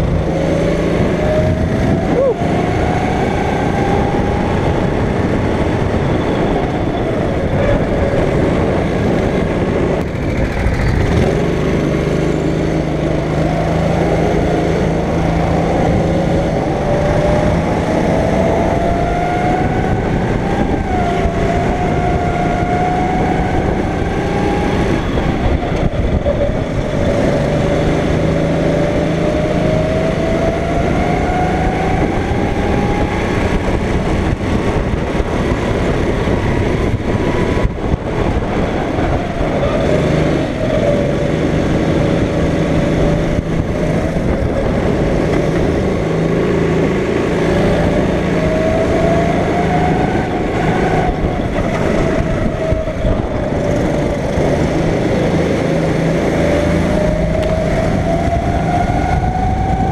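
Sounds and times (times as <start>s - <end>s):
go-kart engine at full throttle: 0.0s - 59.9s.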